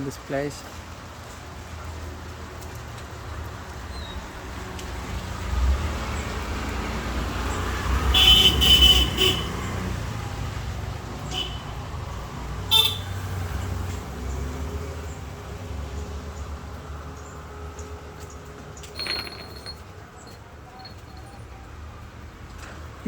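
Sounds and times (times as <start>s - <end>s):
street traffic engine rumble: 0.0s - 23.0s.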